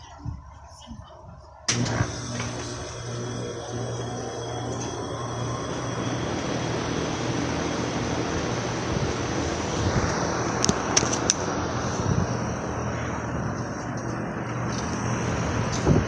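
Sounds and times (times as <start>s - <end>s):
compressor humming: 1.7s - 16.0s
fan air rushing: 1.7s - 16.0s.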